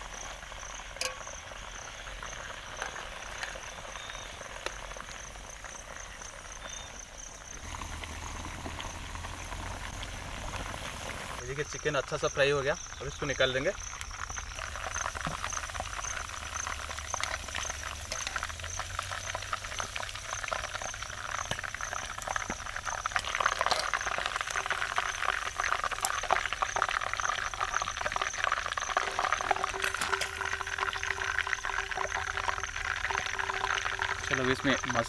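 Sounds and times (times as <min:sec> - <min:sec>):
oil sizzling and crackling: 0:00.0 - 0:11.8, 0:12.8 - 0:35.0.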